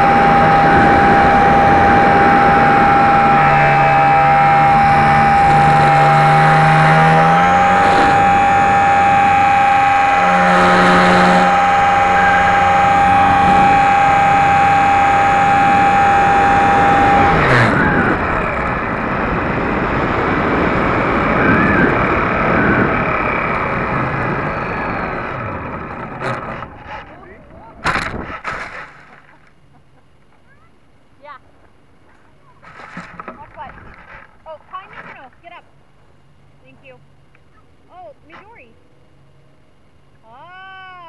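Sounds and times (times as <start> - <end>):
electric motor and propeller whine: 0.0 - 41.0.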